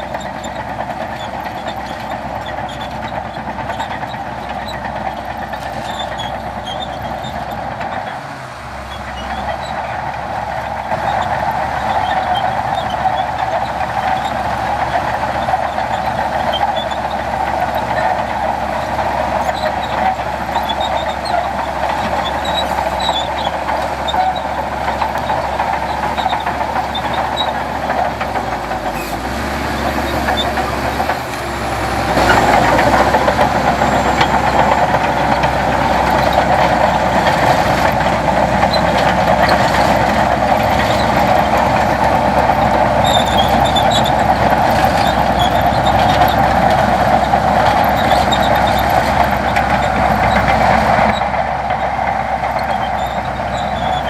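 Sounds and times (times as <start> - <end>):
diesel construction machinery running: 0.0 - 54.0.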